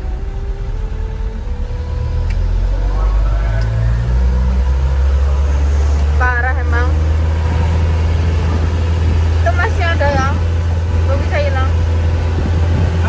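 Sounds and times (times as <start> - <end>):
engine whine rising in pitch: 0.0 - 13.0
truck engine droning: 0.0 - 13.0.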